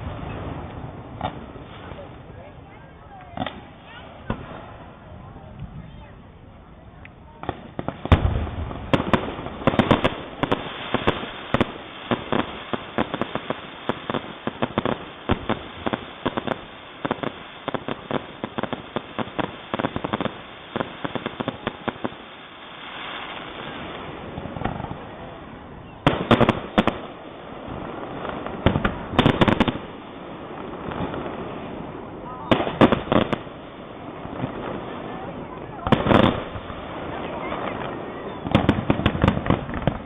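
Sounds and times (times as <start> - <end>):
loud fireworks bangs: 0.0 - 40.0.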